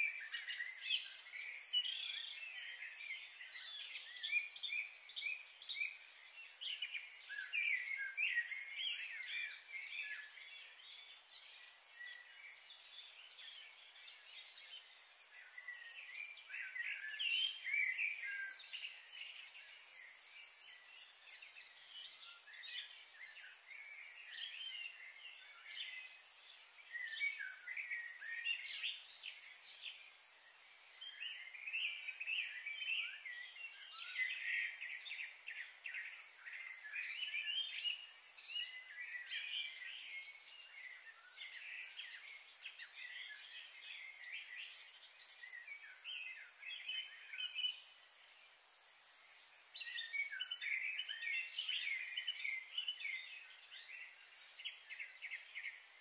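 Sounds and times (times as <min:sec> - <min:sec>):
birds chirping and singing: 0:00.0 - 0:48.6, 0:49.6 - 0:56.0
faint steady hiss: 0:00.0 - 0:56.0.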